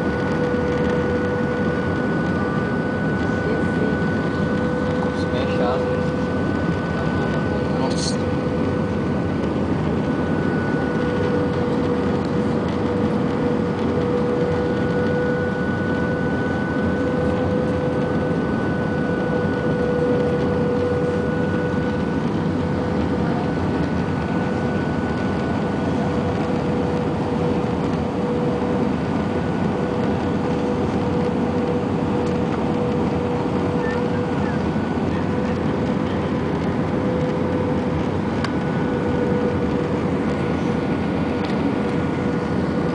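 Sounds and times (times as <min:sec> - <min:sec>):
airliner cabin noise: 0:00.0 - 0:42.9
constant whine: 0:00.0 - 0:42.9.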